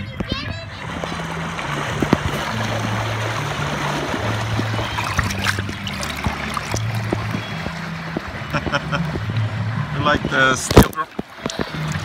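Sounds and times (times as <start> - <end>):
background music bass line: 0.0 - 12.0
water churning and splashing: 0.0 - 12.0.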